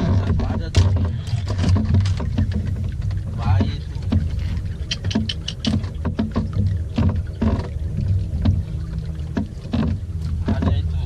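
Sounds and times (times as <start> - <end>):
boat engine hum: 0.0 - 11.0
water splashing against hull: 0.0 - 11.0.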